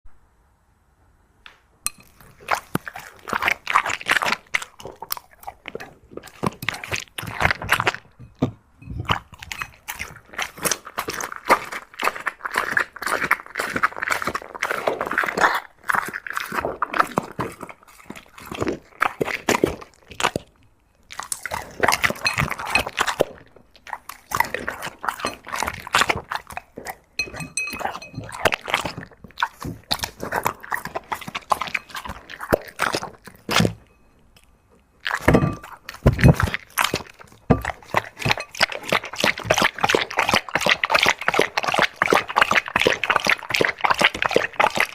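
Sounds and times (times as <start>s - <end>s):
dog crunching food: 1.9s - 44.9s.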